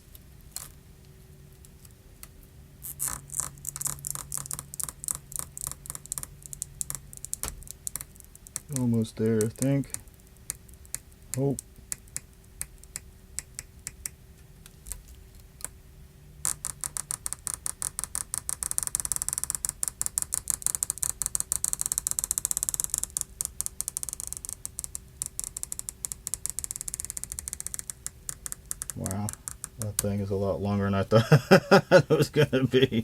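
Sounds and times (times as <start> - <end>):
adhesive strip crackling: 1.6 - 15.7, 16.4 - 30.2.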